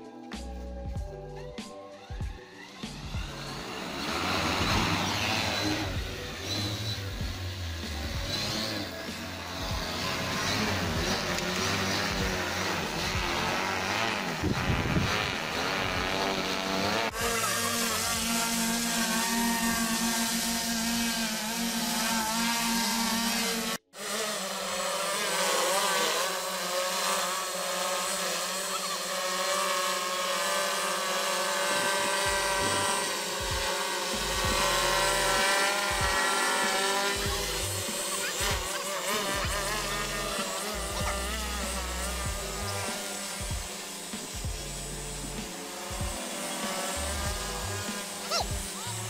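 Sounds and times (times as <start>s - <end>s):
drone rotors whirring: 0.0s - 49.0s.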